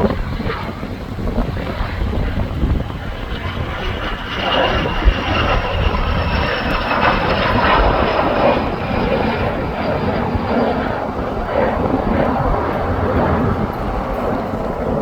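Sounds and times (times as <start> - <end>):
jet engine whine: 0.0 - 15.0
wind buffeting microphone: 0.0 - 15.0.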